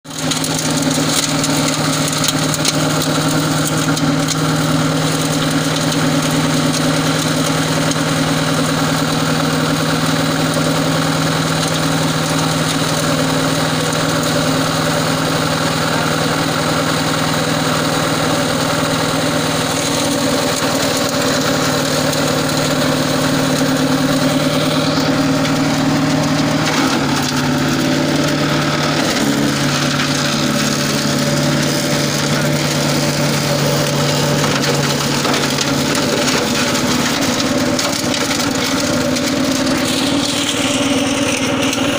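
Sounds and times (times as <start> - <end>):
wood chipper engine running: 0.0 - 41.9
branches fed into chipper: 0.1 - 41.9.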